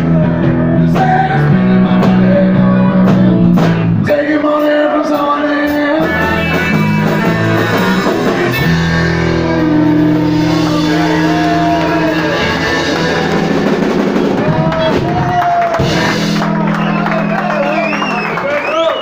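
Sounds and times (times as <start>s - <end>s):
drum kit: 0.0s - 4.8s, 5.7s - 19.0s
bass guitar: 0.0s - 19.0s
electric guitars: 0.0s - 19.0s.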